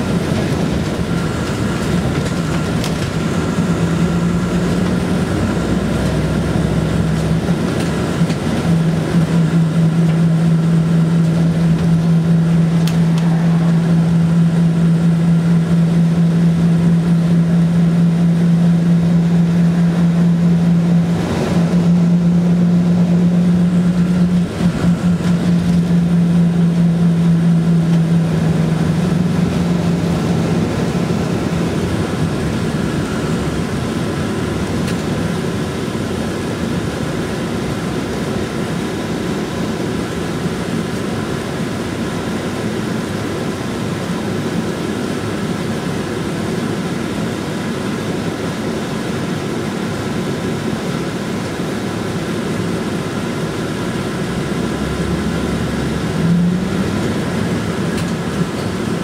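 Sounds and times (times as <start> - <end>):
bus diesel engine drone: 0.0 - 59.0
road noise inside bus: 0.0 - 59.0.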